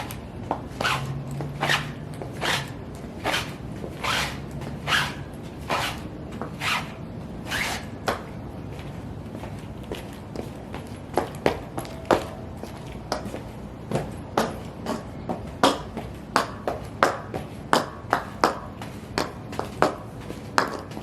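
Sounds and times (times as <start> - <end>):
high heel footsteps: 0.0 - 21.0.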